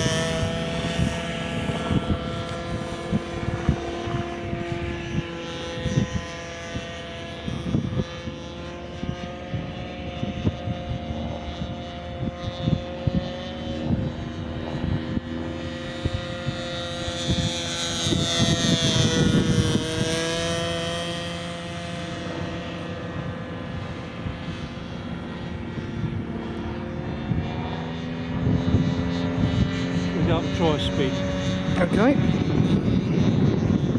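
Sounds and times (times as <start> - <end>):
model airplane engine running: 0.0 - 33.9.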